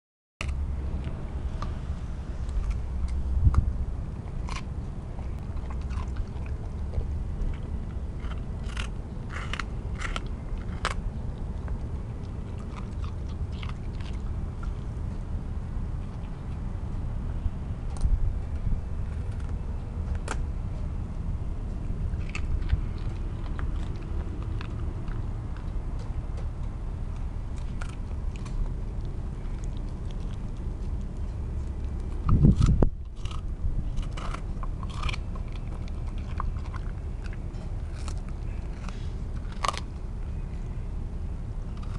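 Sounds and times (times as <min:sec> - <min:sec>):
puppy crunching watermelon rind: 0:00.4 - 0:41.9
steady low rumble: 0:00.4 - 0:41.9.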